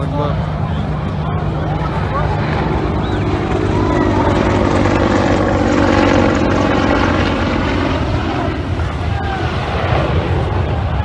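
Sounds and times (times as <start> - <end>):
aircraft engine noise: 0.0 - 11.0
faint crowd voices: 0.0 - 11.0.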